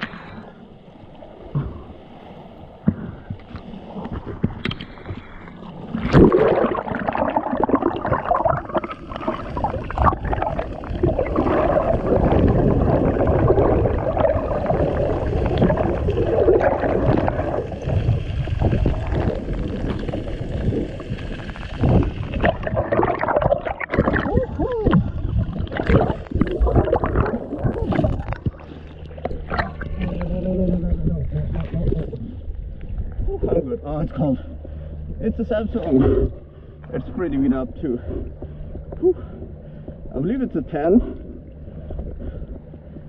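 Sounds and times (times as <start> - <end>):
river current rushing underwater: 0.0 - 38.4.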